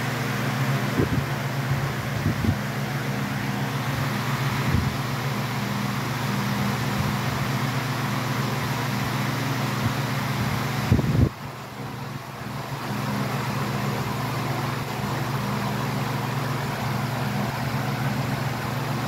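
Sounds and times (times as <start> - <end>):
floor fans rushing air: 0.0 - 19.0.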